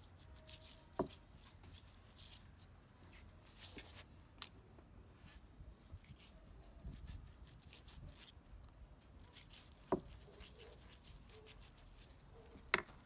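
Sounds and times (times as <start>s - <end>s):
pastry brush strokes: 0.0s - 13.0s.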